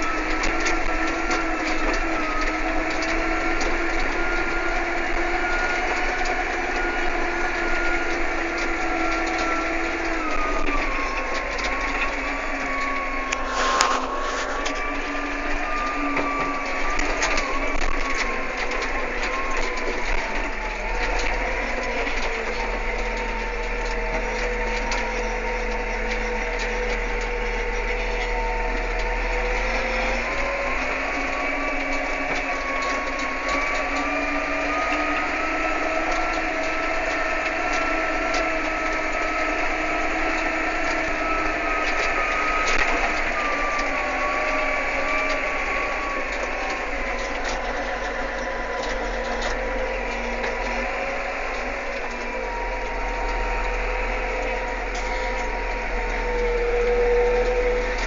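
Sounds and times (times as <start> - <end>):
mechanical whine: 0.0 - 58.0
tractor engine running: 0.0 - 58.0.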